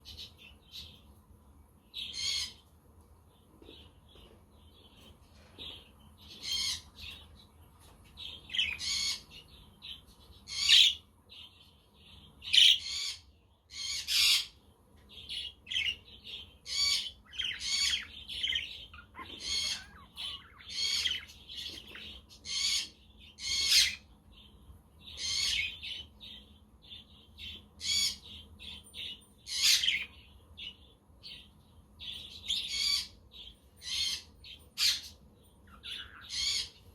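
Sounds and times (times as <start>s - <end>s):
budgerigars chirping and squawking: 2.0s - 2.6s, 5.0s - 7.4s, 8.2s - 36.9s.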